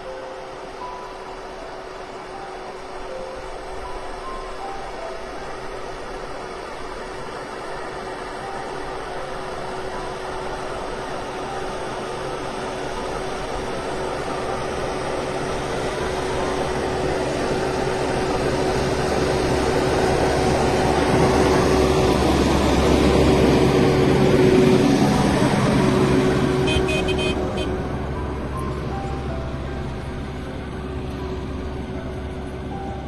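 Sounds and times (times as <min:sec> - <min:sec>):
heavy diesel engine running: 0:05.6 - 0:33.0.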